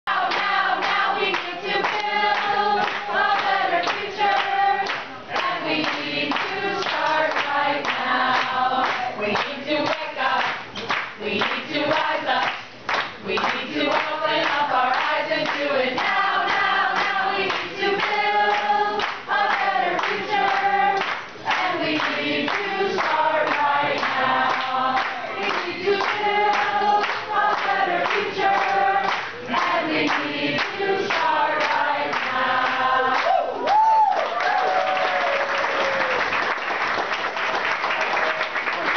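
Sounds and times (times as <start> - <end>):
group of people singing: 0.1 - 33.6
rhythmic clapping: 0.1 - 38.9.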